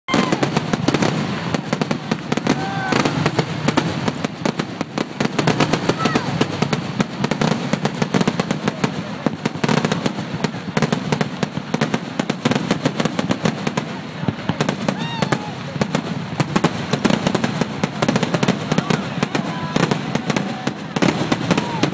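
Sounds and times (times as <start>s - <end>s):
fireworks bangs and crackles: 0.1s - 21.9s.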